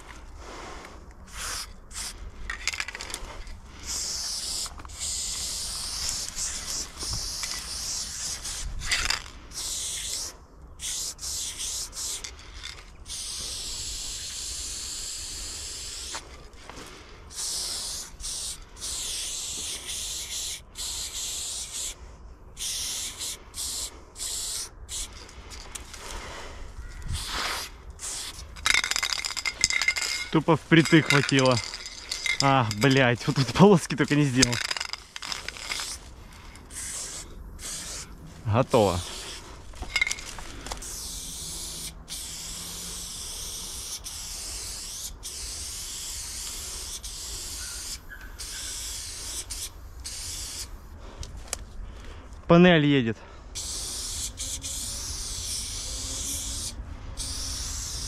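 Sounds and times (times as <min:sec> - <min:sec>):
spray paint can hissing: 0:01.3 - 0:16.4, 0:17.3 - 0:22.0, 0:22.6 - 0:26.4, 0:27.0 - 0:50.9, 0:53.5 - 0:58.0.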